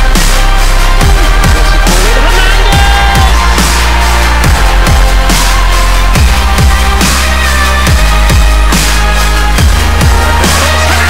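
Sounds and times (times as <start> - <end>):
heavy kick drums: 0.0 - 10.8
deep bass line: 0.0 - 11.0.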